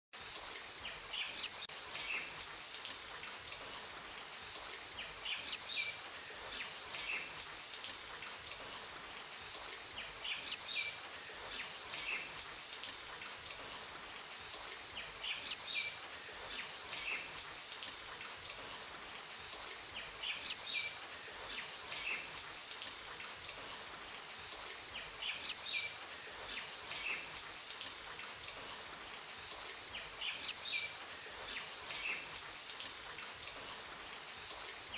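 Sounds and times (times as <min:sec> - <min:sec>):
rain hissing: 0:00.2 - 0:34.9.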